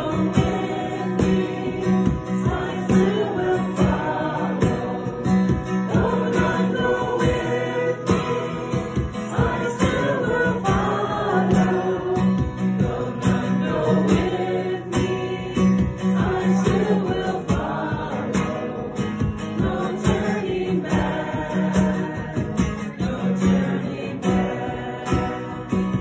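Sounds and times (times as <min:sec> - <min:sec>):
acoustic guitar strumming: 0:00.0 - 0:26.0
group of voices singing: 0:00.0 - 0:26.0.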